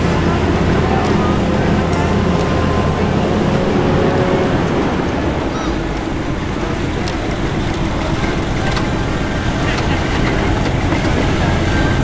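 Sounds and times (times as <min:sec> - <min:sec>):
armoured car engine droning: 0:00.0 - 0:12.0.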